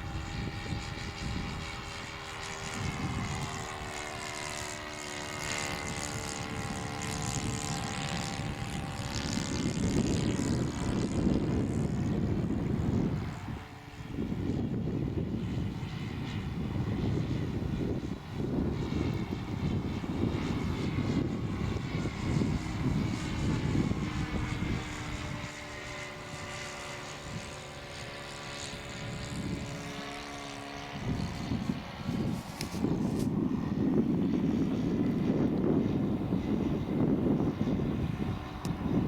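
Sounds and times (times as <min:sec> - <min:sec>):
model airplane engine droning: 0:00.0 - 0:39.0
wind rumble on microphone: 0:00.0 - 0:39.0.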